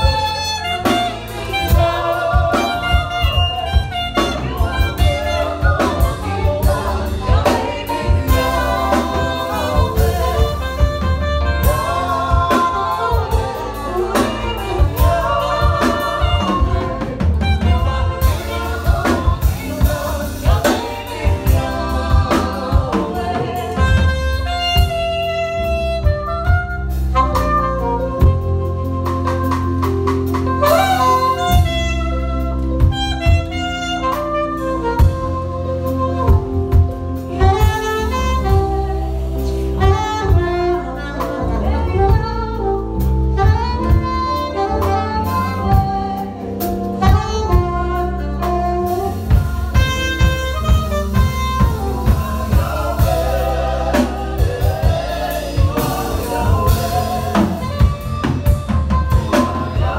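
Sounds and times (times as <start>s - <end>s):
bass: 0.0s - 59.9s
drum kit: 0.0s - 59.9s
saxophone playing jazzy melody: 0.0s - 59.9s.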